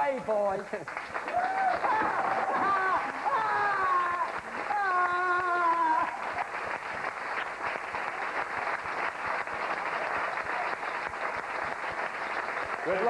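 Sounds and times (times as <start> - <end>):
studio audience applauding: 0.0 - 13.0.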